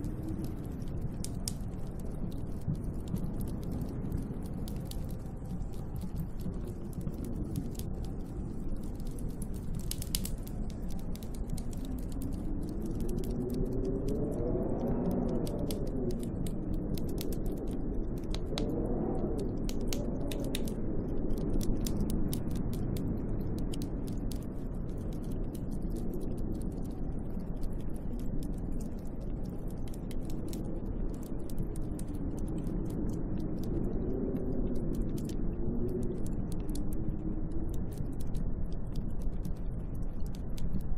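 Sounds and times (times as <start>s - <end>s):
wind howling in gusts: 0.0s - 40.9s.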